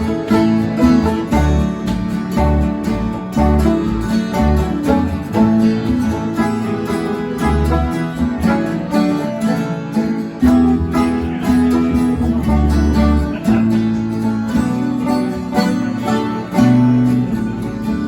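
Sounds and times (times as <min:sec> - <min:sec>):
fingerpicked acoustic guitar: 0:00.0 - 0:18.0
low bass notes: 0:00.0 - 0:18.0.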